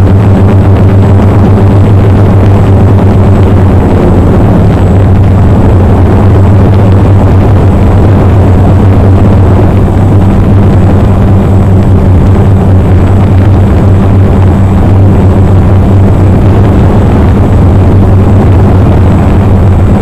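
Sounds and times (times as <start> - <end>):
drone motors humming: 0.0 - 20.0.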